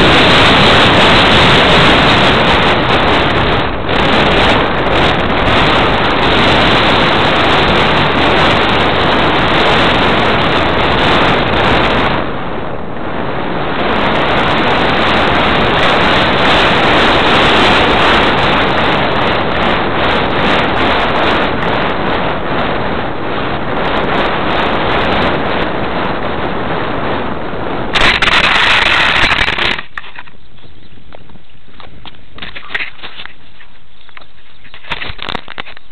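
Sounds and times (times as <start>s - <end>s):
wind rushing over microphone: 0.0s - 35.9s.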